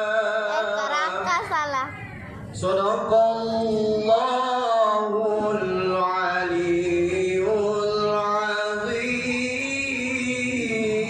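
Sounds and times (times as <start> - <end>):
person chanting recitation: 0.0 - 1.4, 2.6 - 11.0.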